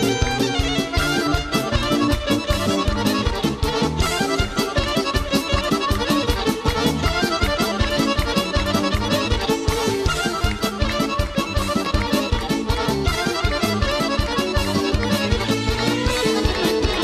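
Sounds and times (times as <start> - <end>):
accordion melody: 0.0 - 17.0
folk orchestra playing: 0.0 - 17.0.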